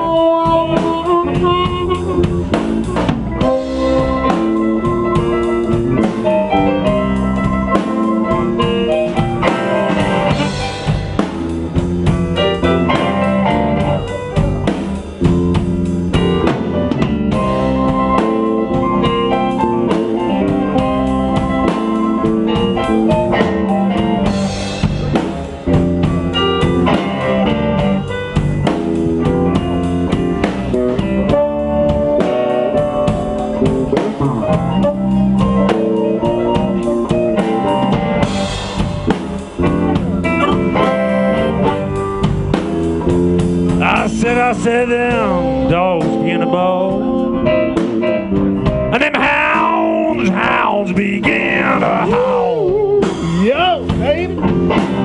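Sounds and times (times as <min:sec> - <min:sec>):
blues guitar: 0:00.0 - 0:55.0
drum kit: 0:00.0 - 0:55.0.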